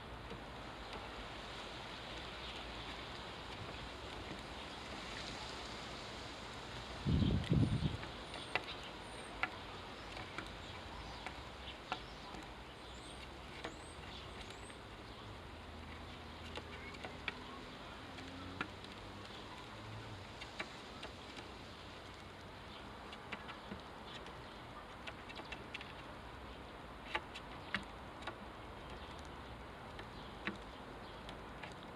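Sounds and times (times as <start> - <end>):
faint steady hiss: 0.0 - 31.9
small clicks and taps: 0.2 - 5.4, 7.3 - 31.9.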